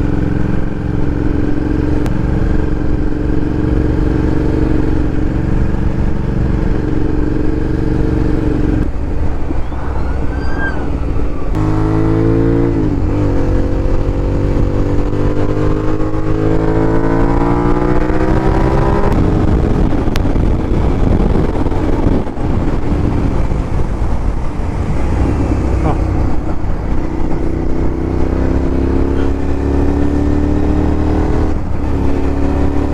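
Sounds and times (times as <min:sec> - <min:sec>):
motorcycle engine running: 0:00.0 - 0:32.9
wind and road noise: 0:00.0 - 0:32.9.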